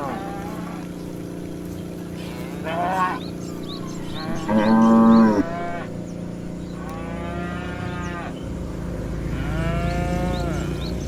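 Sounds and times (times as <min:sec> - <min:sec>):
cows mooing: 0:00.0 - 0:11.0.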